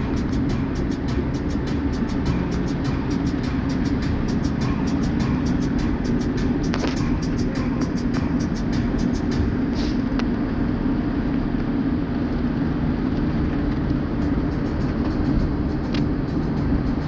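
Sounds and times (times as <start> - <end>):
vehicle road and engine rumble: 0.0 - 17.0.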